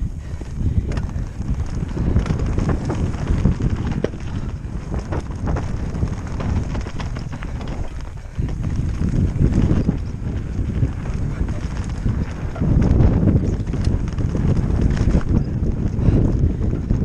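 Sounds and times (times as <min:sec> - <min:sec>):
bike clacking and rattling: 0:00.0 - 0:17.0
wind buffeting microphone: 0:00.0 - 0:17.0
tyres on dirt: 0:00.4 - 0:16.8.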